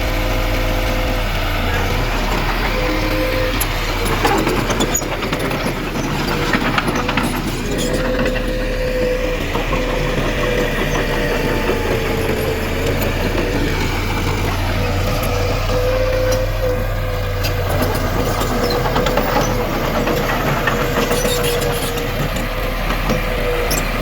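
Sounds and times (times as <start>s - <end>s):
heavy machine diesel engine: 0.0s - 24.0s
metal clanks and knocks: 1.6s - 24.0s.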